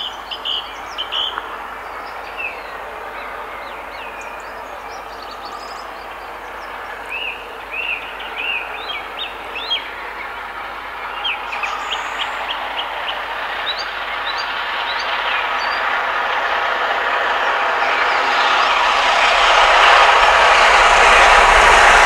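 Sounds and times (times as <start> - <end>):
steam locomotive running: 0.0 - 22.0.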